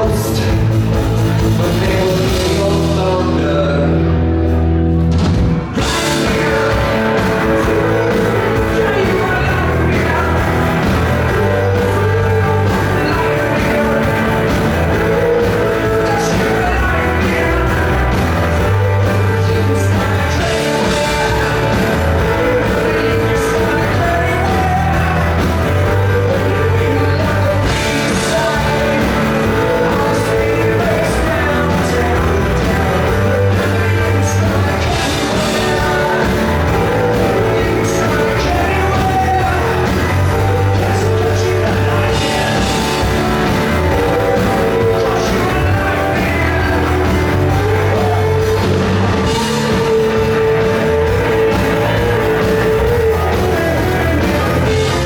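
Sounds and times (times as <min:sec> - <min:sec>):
person singing: 0:00.0 - 0:04.4, 0:05.6 - 0:55.0
rock band playing live: 0:00.0 - 0:55.0.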